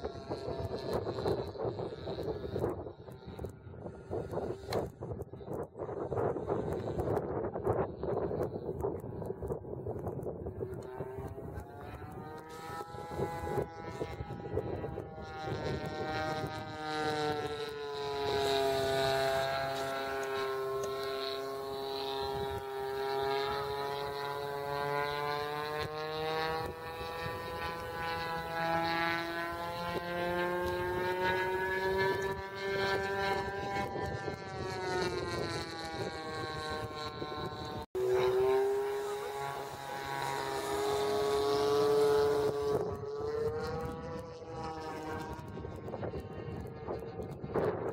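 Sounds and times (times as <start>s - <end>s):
model aeroplane motor buzzing: 0.0s - 47.9s.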